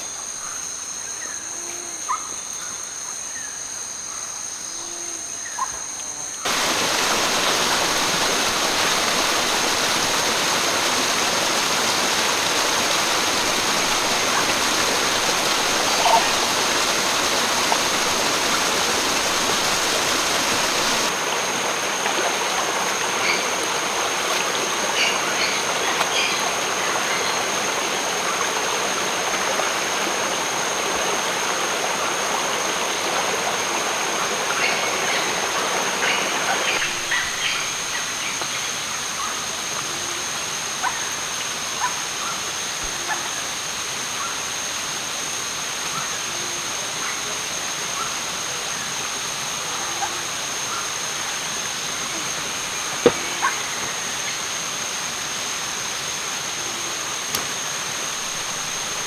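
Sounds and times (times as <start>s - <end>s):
water rushing over rocks: 6.4s - 59.0s.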